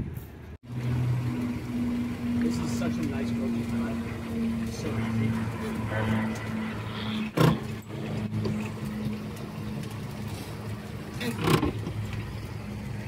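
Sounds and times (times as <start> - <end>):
boat motor humming: 0.6 - 13.0.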